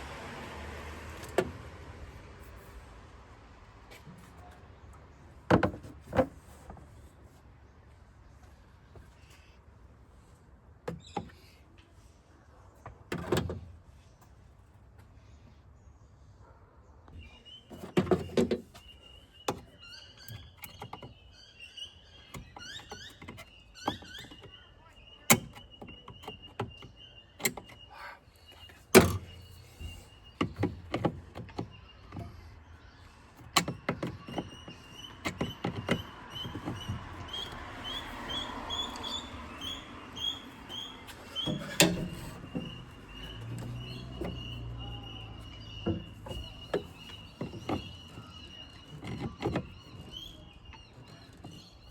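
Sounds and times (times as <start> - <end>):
birds chirping: 7.0 - 51.9.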